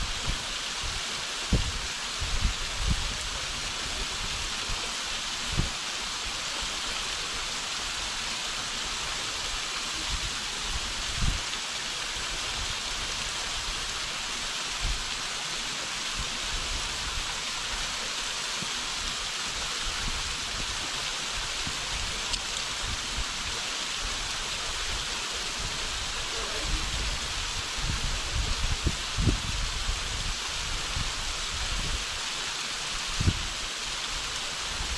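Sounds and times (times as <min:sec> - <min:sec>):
waterfall splashing on rock: 0:00.0 - 0:34.9.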